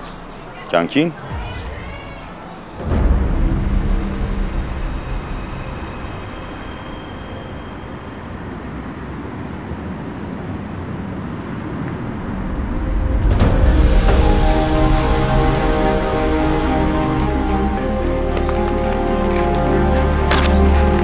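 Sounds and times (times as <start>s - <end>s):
cars driving past: 0.0s - 21.0s.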